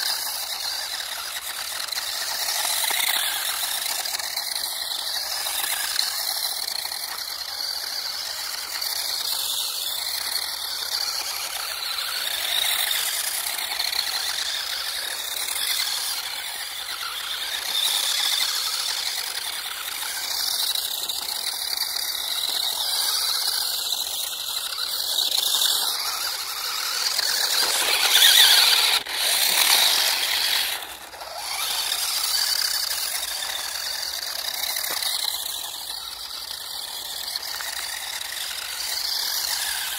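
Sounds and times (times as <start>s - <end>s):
electric motor whining: 0.0s - 39.9s
tyres skidding: 0.0s - 39.9s.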